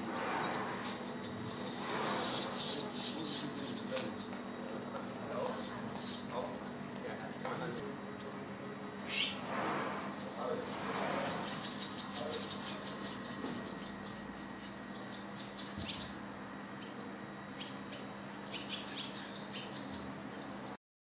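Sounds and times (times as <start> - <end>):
nestlings twittering begging calls: 0.0 - 4.5, 5.1 - 6.6, 9.0 - 16.2, 16.8 - 20.6.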